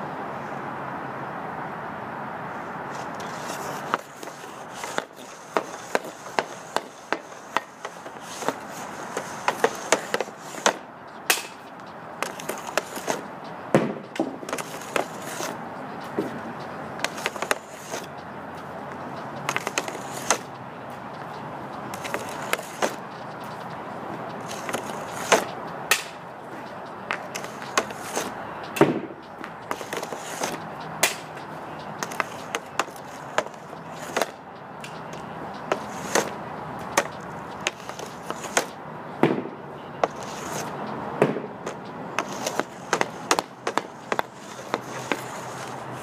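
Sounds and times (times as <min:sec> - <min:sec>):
steady background rush: 0:02.2 - 0:46.0
hockey stick hitting pucks: 0:03.0 - 0:18.2, 0:18.9 - 0:20.5, 0:21.2 - 0:23.7, 0:24.4 - 0:46.0.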